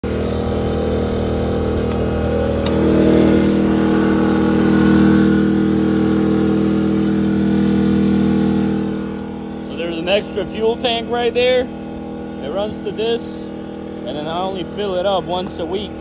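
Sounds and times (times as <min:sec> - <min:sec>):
generator engine hum: 0:00.0 - 0:16.0.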